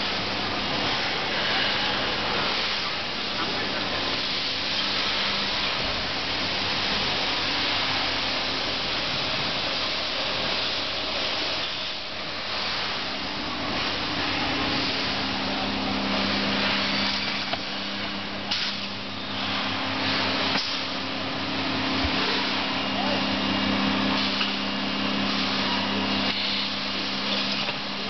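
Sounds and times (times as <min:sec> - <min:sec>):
vacuum pump hissing: 0:00.3 - 0:28.0.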